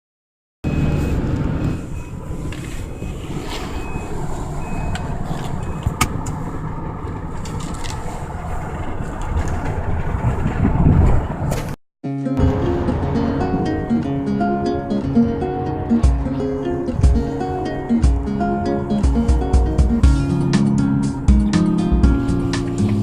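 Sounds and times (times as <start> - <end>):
road and engine rumble in car: 0.6 - 11.8, 12.4 - 23.0.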